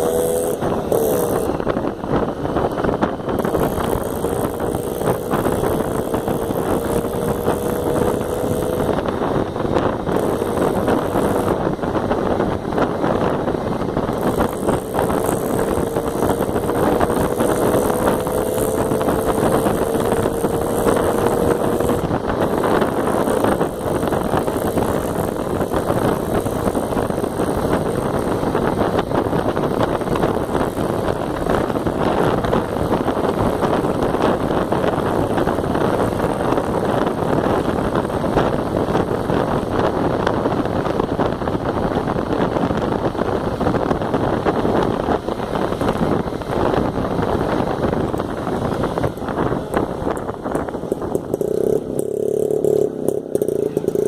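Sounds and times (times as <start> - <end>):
motorcycle engine: 0.0 - 54.0
wind buffeting microphone: 0.0 - 54.0.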